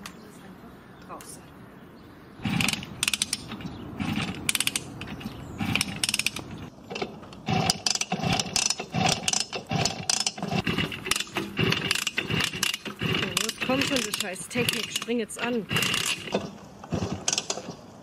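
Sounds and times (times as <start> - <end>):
engine turning over: 2.4 - 17.8
moped kick-start ratcheting: 2.4 - 17.8.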